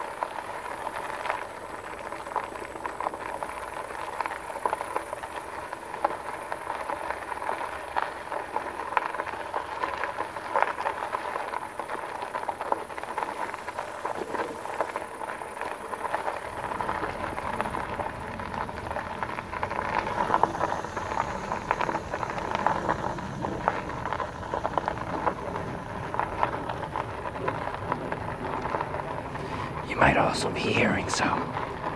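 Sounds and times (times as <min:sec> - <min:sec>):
bike tyres crunching on gravel: 0:00.0 - 0:30.1, 0:31.3 - 0:31.9.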